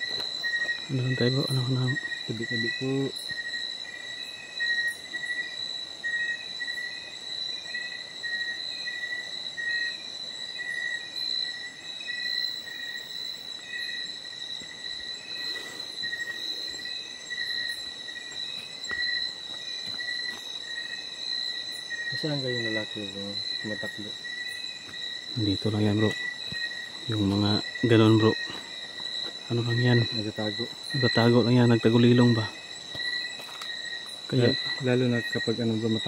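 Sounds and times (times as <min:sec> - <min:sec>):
insects trilling: 0:00.0 - 0:36.0
lower insect chirp pulsing: 0:00.0 - 0:36.0.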